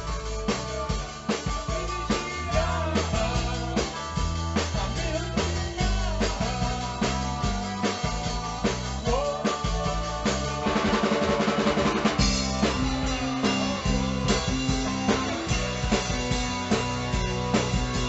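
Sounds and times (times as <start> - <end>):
drum kit kick and snare hits: 0.0 - 18.0
rock band playing: 0.0 - 18.0.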